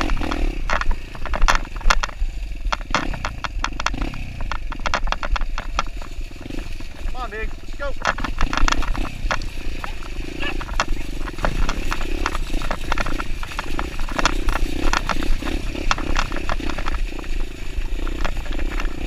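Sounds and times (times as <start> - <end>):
bike knocking over rocks: 0.0 - 19.0
dirtbike engine at low revs: 0.0 - 19.0.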